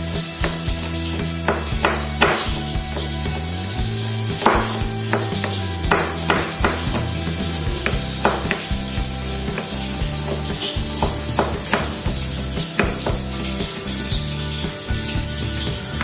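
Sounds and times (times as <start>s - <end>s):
vegetables frying in oil: 0.2s - 16.0s.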